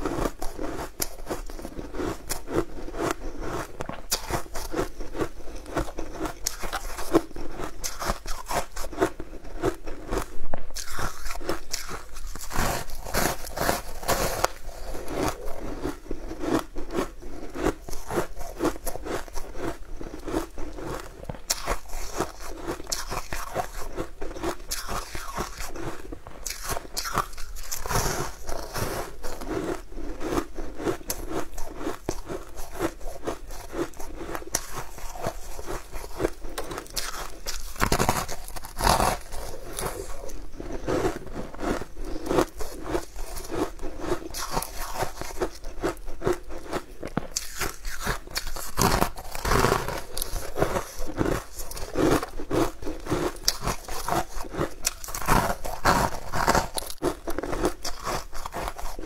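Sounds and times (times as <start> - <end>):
person chewing crunchy pastries: 0.0 - 59.0.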